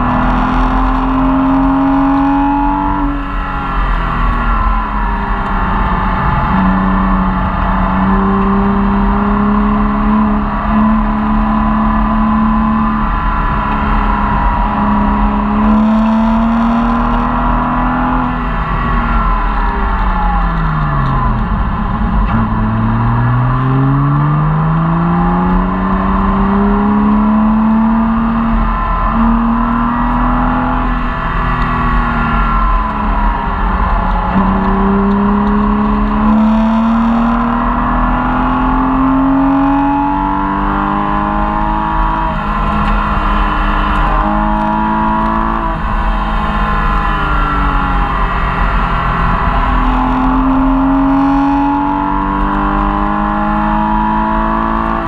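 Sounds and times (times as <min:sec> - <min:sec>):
car engine revving with gear changes: 0:00.0 - 0:55.0.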